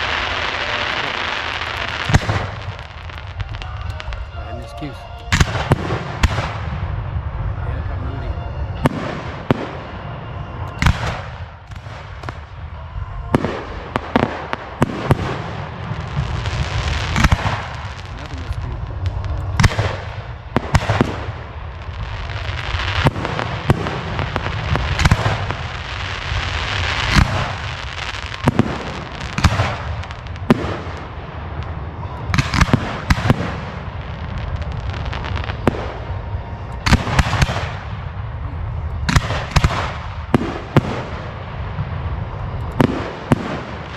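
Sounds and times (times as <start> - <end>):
fireworks bangs: 0.0 - 43.9
fireworks crackling: 0.0 - 43.9.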